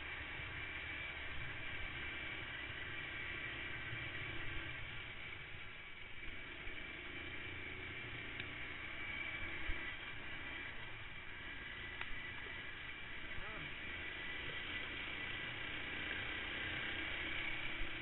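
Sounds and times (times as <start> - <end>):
kart engine running: 0.0 - 18.0.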